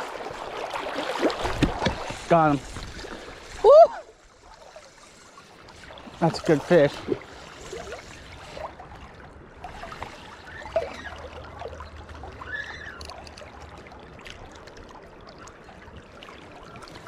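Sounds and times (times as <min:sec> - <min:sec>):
river water running: 0:00.0 - 0:17.0.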